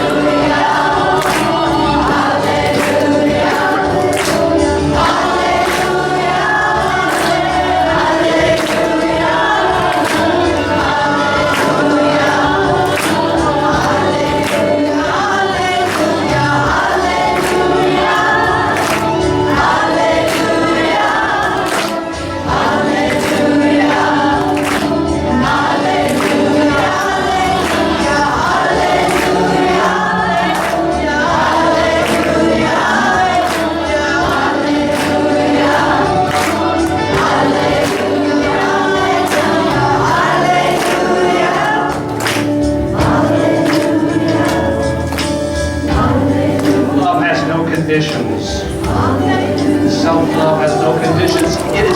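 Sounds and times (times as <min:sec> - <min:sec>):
choir singing devotional chant: 0:00.0 - 0:51.9
musical accompaniment with percussive beat: 0:00.0 - 0:51.9.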